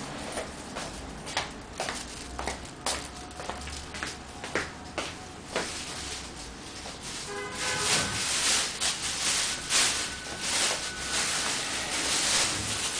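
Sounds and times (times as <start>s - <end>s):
rustling handling noise: 0.1s - 12.9s.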